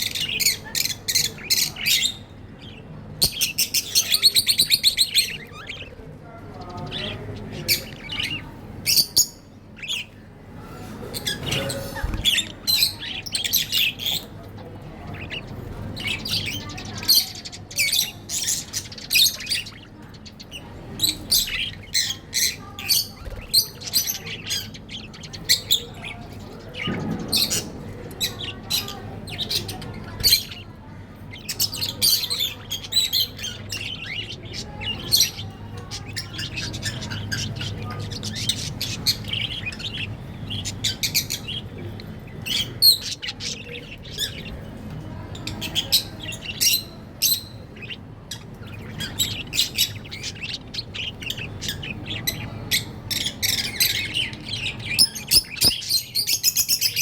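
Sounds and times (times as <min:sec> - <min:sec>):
budgerigars chirping: 0:00.0 - 0:30.7, 0:31.3 - 0:44.8, 0:45.4 - 0:57.0.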